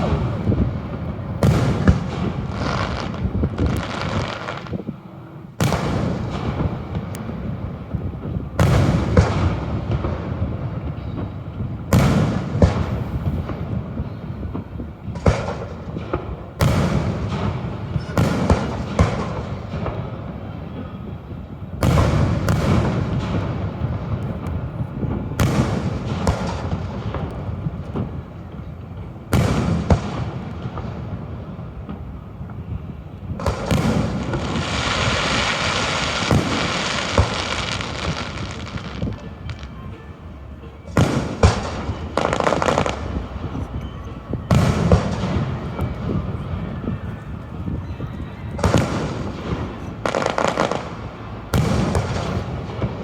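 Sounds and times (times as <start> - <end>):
fireworks booming: 0.0 - 53.0
sharp fireworks cracks: 0.0 - 53.0.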